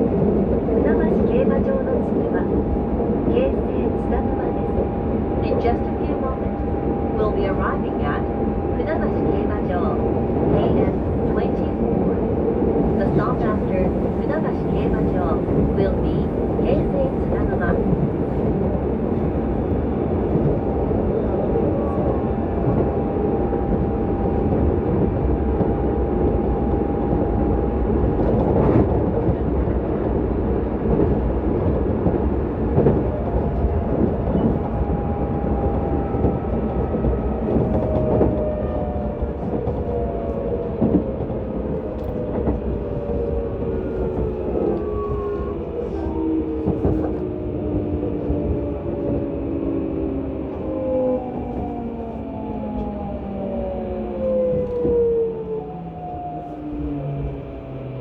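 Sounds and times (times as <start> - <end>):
wheel and rail rumble: 0.0 - 58.0
train inverter tones: 0.8 - 28.5, 31.5 - 58.0.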